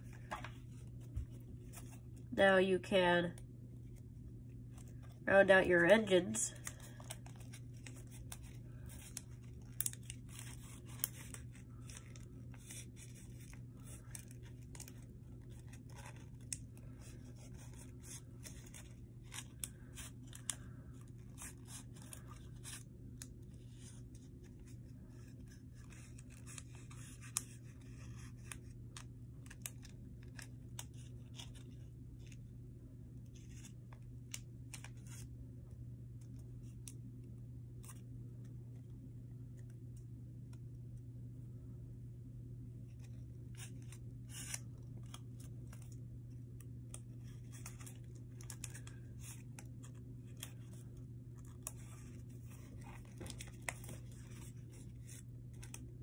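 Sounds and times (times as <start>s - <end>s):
paper crinkling and rustling: 0.0s - 2.3s, 3.4s - 5.2s, 6.0s - 32.6s, 33.2s - 35.3s, 42.8s - 56.0s
steady low hum: 0.0s - 56.0s.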